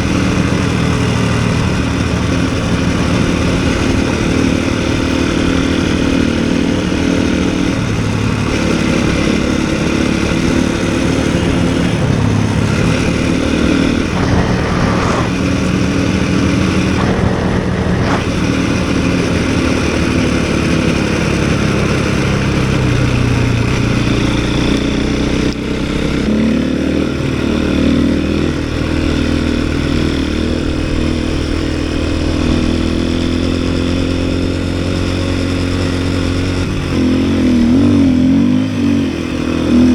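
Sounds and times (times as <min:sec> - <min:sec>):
snowbike engine revving: 0:00.0 - 0:39.9.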